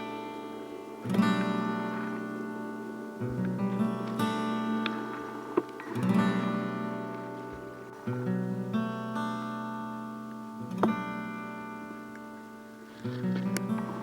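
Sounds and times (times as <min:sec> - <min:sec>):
acoustic guitar chords strummed: 0:00.0 - 0:14.0.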